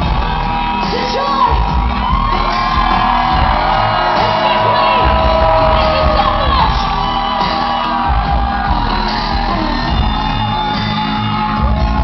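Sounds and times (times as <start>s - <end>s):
crowd whooping and shouting: 0.0s - 12.0s
live band with singing: 0.0s - 12.0s.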